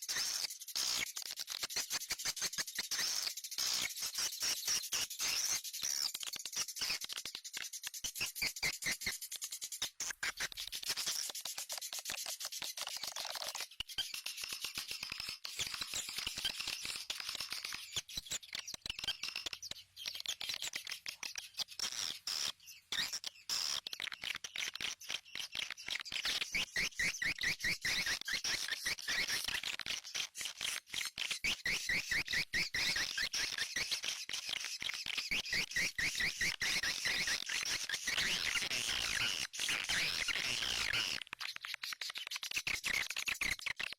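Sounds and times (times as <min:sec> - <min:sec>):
swiftlets chattering and chirping: 0:00.0 - 0:43.9.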